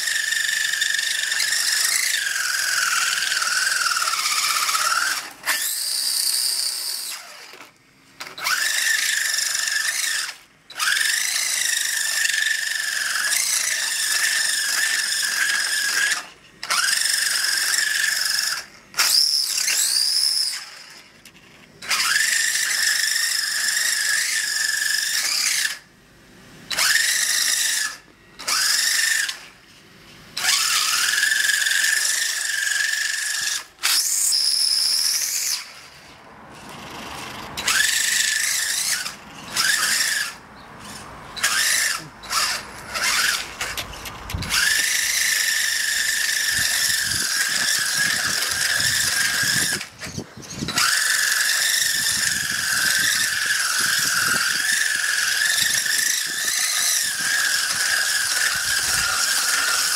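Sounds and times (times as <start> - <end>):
electric motor whining: 0.0 - 21.2, 21.8 - 25.9, 26.6 - 29.6, 30.4 - 59.9.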